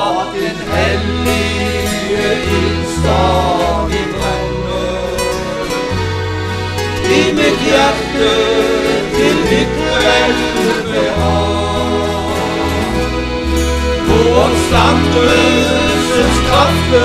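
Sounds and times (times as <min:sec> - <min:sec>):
gospel band music: 0:00.0 - 0:17.0
men singing: 0:00.0 - 0:17.0.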